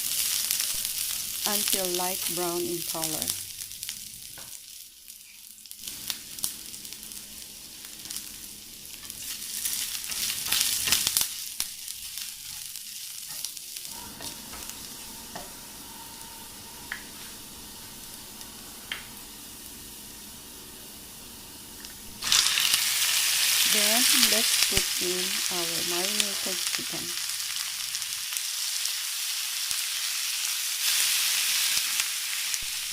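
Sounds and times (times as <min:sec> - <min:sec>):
ginger sizzling in oil: 0:00.0 - 0:32.9.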